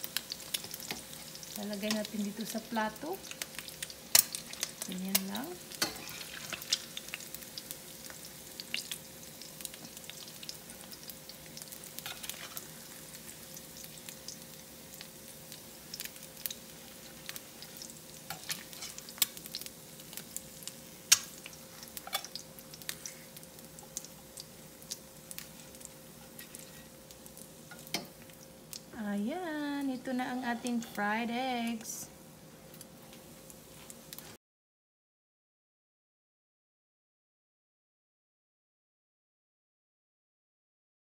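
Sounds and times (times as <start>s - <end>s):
hot oil sizzling and crackling: 0.0s - 34.4s.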